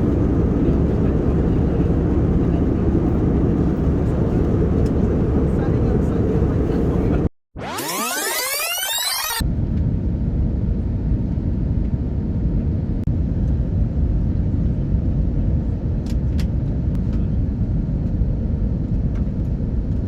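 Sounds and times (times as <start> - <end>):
airliner cabin rumble: 0.0 - 7.3, 9.4 - 20.0.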